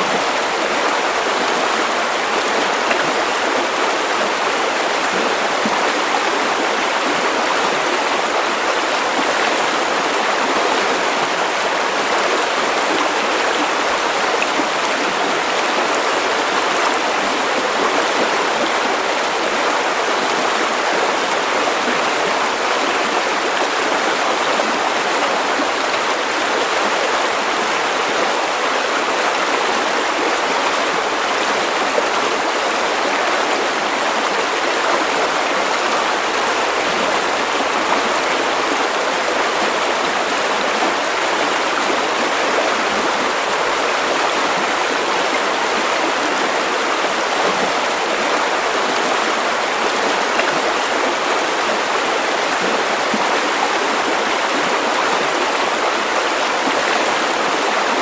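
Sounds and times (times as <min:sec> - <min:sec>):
river water over stones: 0:00.0 - 0:58.0.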